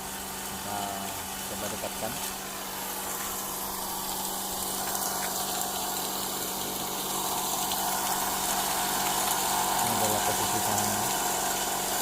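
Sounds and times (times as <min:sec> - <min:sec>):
grinding mill motor humming: 0:00.0 - 0:12.0.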